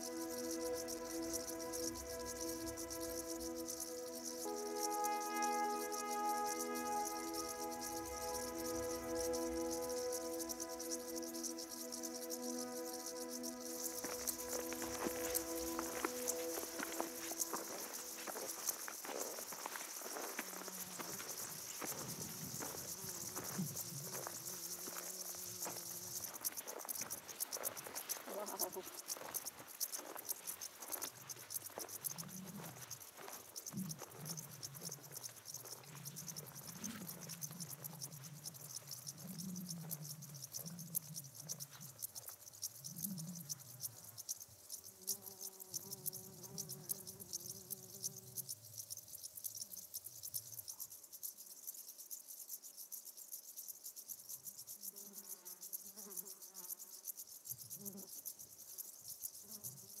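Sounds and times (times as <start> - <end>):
crickets chirping: 0.0 - 60.0.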